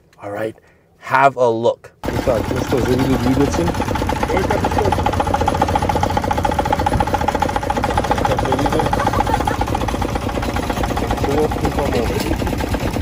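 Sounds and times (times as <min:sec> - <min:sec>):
car engine idling: 0:02.0 - 0:13.0.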